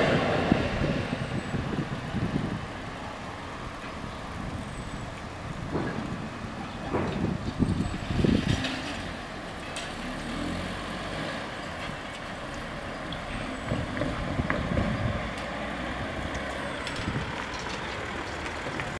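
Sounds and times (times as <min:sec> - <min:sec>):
car pulling away: 0:00.0 - 0:18.9.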